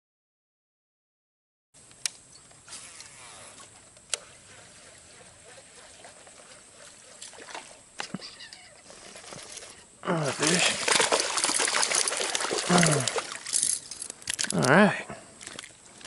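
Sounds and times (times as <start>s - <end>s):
faint outdoor background: 1.8s - 16.0s.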